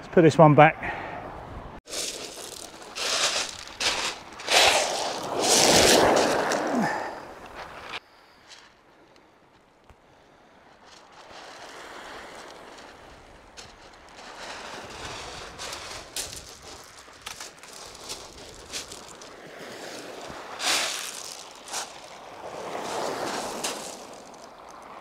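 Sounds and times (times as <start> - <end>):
wind: 0.0 - 25.0
surf on beach: 0.9 - 8.7, 10.1 - 25.0.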